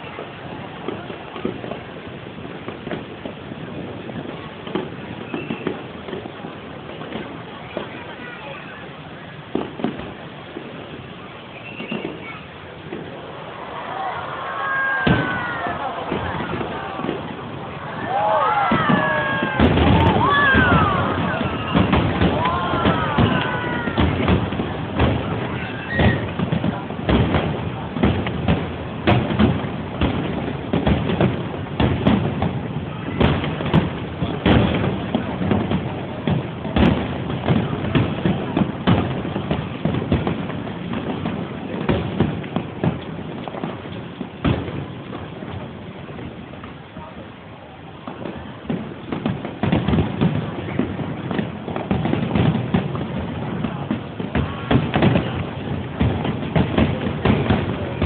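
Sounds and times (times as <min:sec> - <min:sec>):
fireworks booms and cracks: 0:00.0 - 0:58.0.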